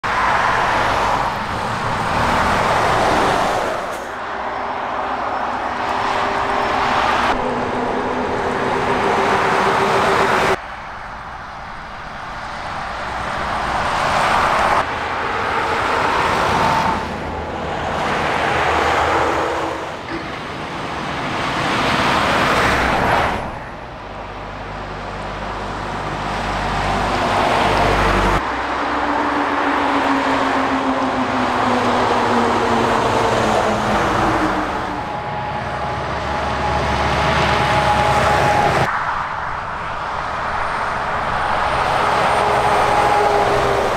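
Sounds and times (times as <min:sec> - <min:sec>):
diesel trucks passing: 0:00.0 - 0:43.9.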